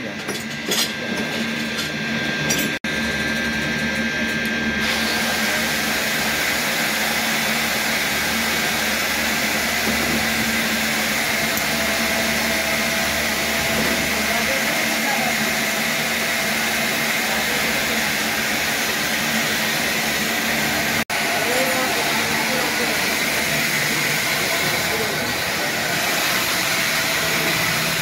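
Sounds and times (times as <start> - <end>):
electric motor humming and whining: 0.0 - 28.0.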